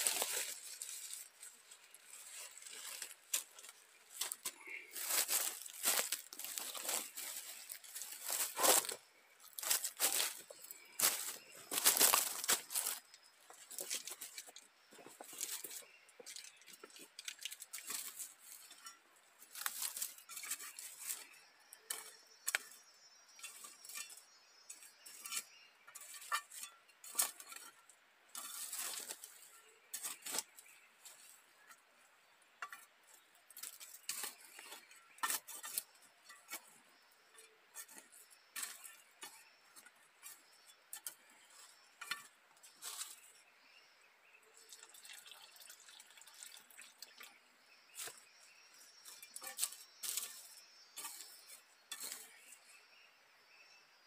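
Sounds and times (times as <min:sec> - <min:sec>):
small hard objects clinking: 0:00.0 - 0:31.8, 0:32.6 - 0:43.4, 0:44.6 - 0:52.8.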